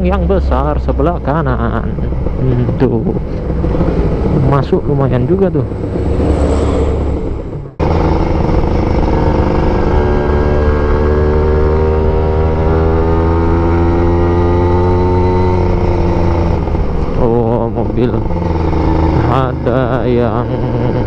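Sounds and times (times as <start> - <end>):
motorcycle engine under load: 0.2 - 21.0.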